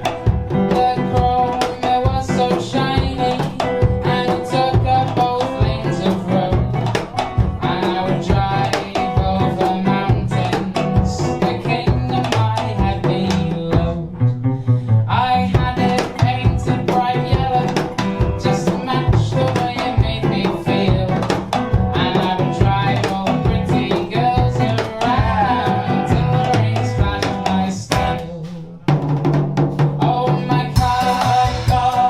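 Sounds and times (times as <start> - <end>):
drum kit beat: 0.0 - 14.6, 15.2 - 32.0
instrumental band music: 0.0 - 32.0.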